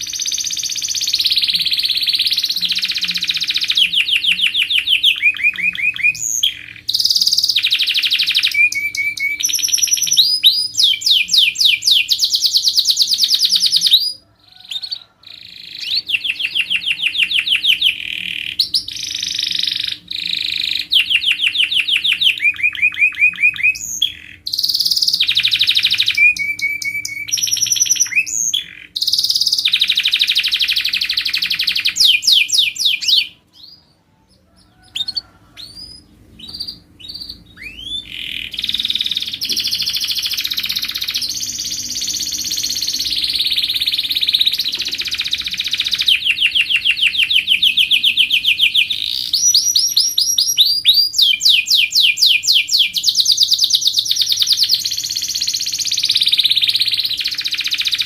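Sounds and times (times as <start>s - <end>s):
faint low hum: 0.0s - 51.4s
canary singing trills: 0.0s - 58.0s.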